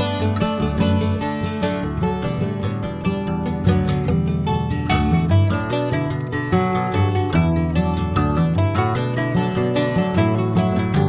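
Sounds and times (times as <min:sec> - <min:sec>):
instrumental music with plucked strings: 0:00.0 - 0:11.0.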